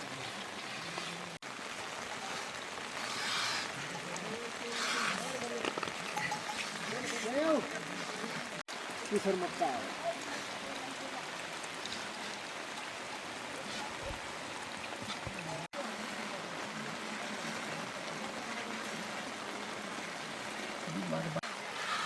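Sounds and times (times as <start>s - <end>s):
heavy rain falling: 0.0s - 22.0s
running water: 0.0s - 22.0s.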